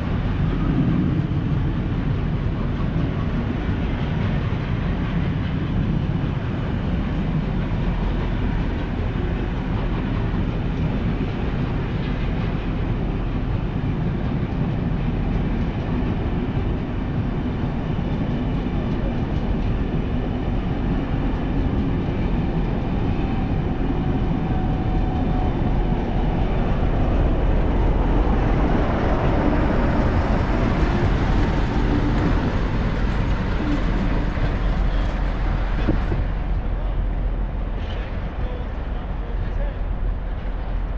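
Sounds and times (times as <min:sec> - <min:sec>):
train passing: 0:00.0 - 0:40.9.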